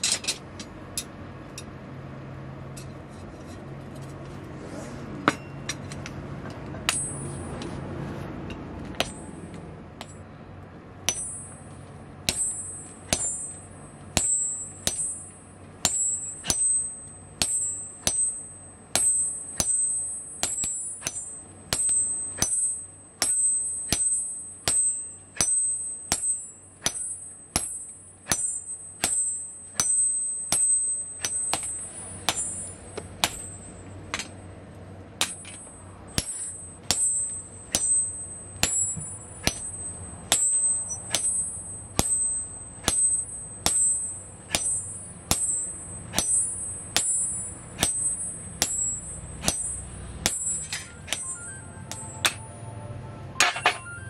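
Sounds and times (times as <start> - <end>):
hammer striking steel on anvil: 0.0 - 1.7, 5.2 - 7.8, 8.4 - 10.3, 11.0 - 34.5, 35.2 - 52.8, 53.4 - 54.0.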